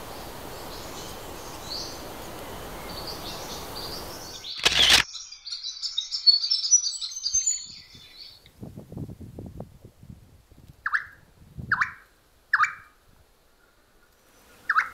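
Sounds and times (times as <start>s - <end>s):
small birds chirping: 0.0s - 8.5s, 10.8s - 14.9s.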